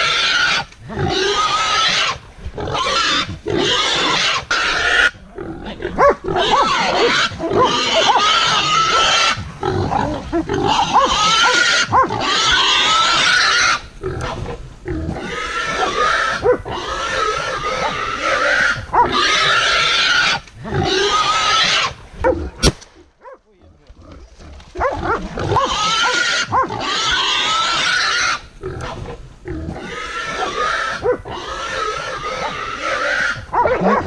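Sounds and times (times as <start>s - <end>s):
wild boar squealing: 0.0s - 13.9s, 15.1s - 22.6s, 24.8s - 29.0s, 29.7s - 34.0s.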